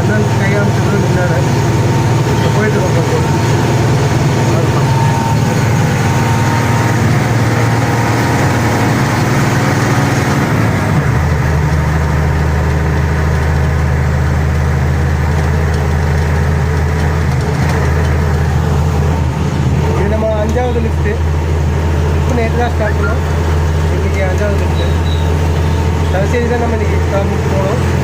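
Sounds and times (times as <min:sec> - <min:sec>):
lorry engine hum: 0:00.0 - 0:28.0.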